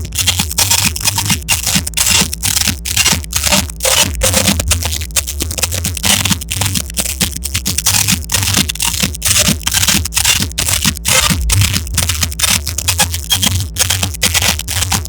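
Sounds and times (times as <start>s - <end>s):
harsh electronic music: 0.0s - 15.0s.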